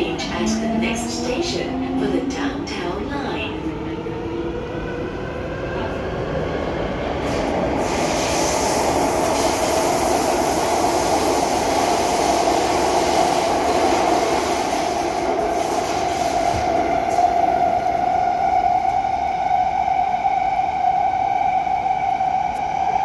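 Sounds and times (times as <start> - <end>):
train wheels rumbling on rails: 0.0 - 19.8
train whine: 0.0 - 23.0.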